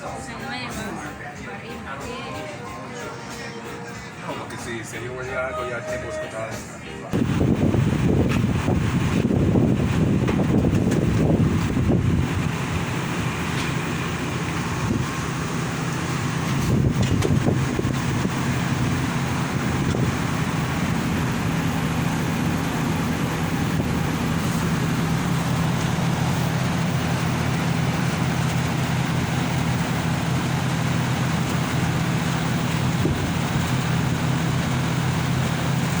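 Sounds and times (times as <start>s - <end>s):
air conditioner compressor and fan hum: 0.0s - 36.0s.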